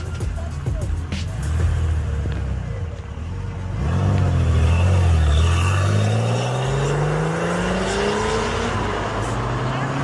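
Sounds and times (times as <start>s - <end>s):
car engine accelerating: 0.4s - 10.0s.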